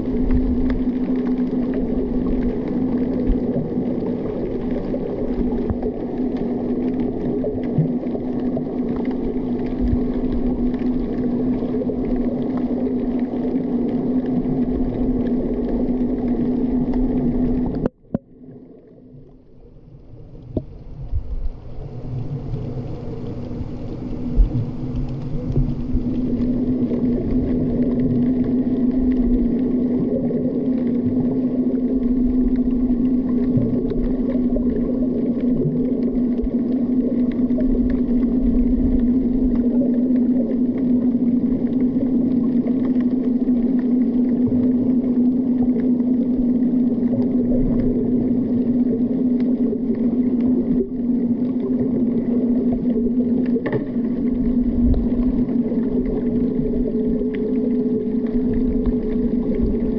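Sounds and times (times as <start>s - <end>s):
low engine drone underwater: 0.0s - 59.9s
muffled underwater noise: 0.0s - 59.9s.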